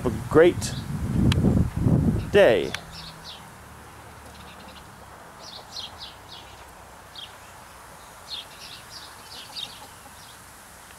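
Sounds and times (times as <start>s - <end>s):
faint outdoor hiss: 0.0s - 10.9s
birds chirping: 2.0s - 10.9s.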